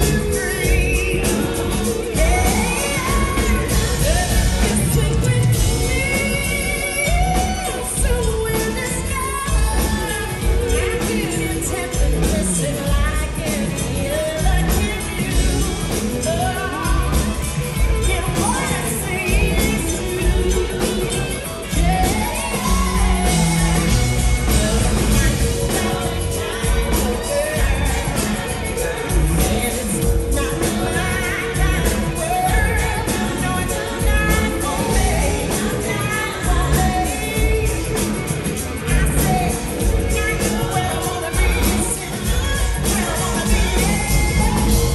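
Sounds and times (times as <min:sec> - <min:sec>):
live pop-rock band: 0:00.0 - 0:44.9
woman singing lead vocal: 0:00.0 - 0:44.9.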